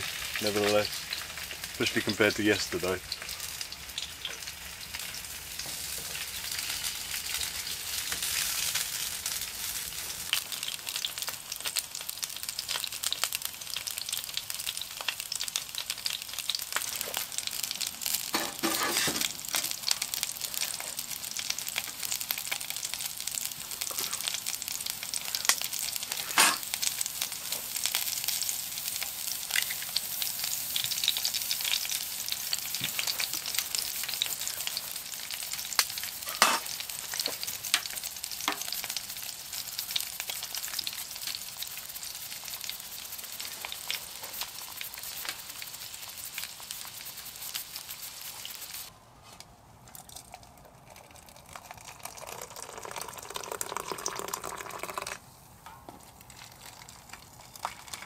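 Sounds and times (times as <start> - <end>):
sausages sizzling in oil: 0.0 - 49.0, 50.8 - 58.0.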